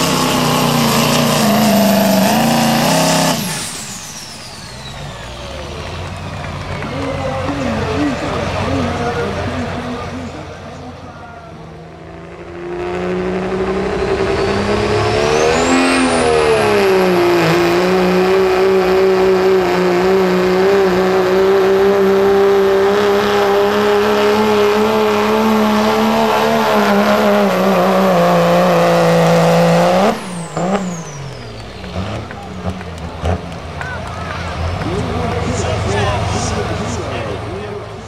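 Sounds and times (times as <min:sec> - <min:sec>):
diesel engine revving: 0:00.0 - 0:38.0.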